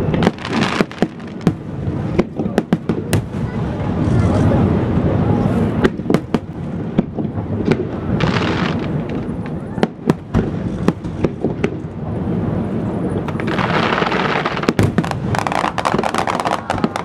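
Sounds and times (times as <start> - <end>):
hissing crackle of fireworks: 0.0 - 17.0.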